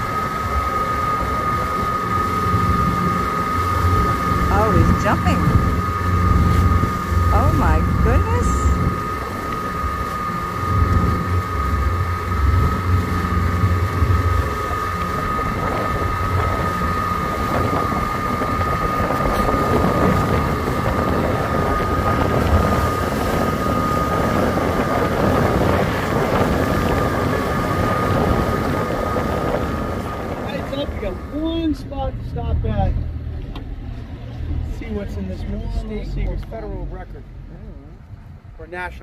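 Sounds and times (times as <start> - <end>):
wind buffeting microphone: 0.0 - 36.3
thin whine: 0.0 - 38.6
motorboat engine running: 0.0 - 39.0.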